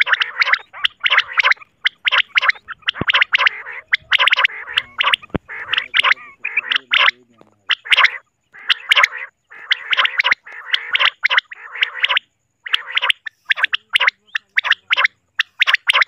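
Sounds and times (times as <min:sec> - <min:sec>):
quail calls: 0:00.0 - 0:16.0.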